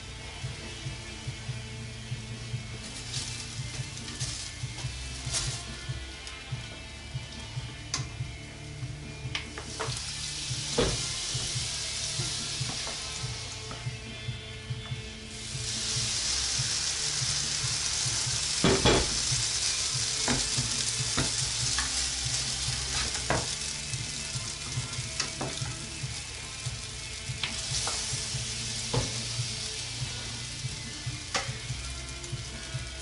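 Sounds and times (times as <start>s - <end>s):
batter sizzling in frying pan: 0.0s - 33.0s.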